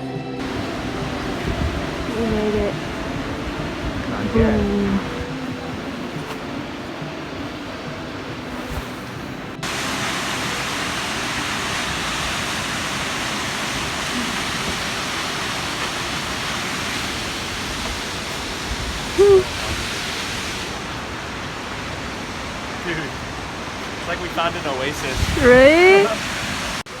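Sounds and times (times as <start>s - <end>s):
waterfall roaring: 0.4s - 27.0s.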